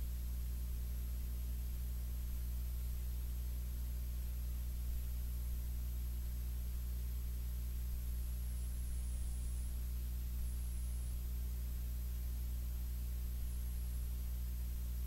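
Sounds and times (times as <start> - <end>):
faint high-pitched whine: 0.0 - 15.0
low electrical hum: 0.0 - 15.0.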